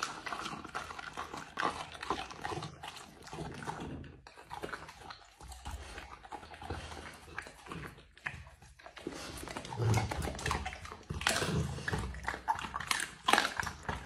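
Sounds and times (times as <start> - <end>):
dog chewing and licking meat: 0.0 - 14.0.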